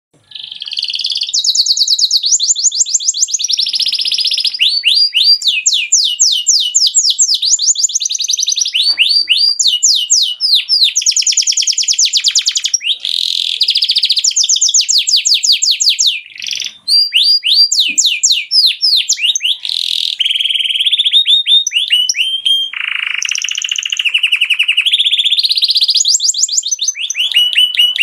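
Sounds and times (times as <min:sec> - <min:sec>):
canary singing trills: 0:00.2 - 0:28.0.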